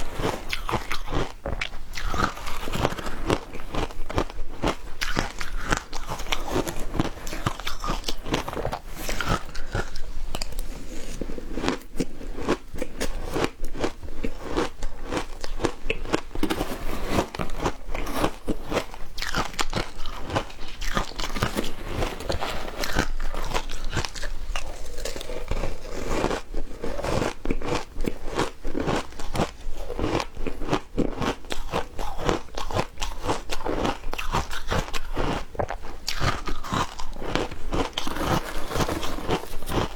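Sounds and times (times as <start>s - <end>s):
ice being crunched while chewing: 0.0s - 39.9s.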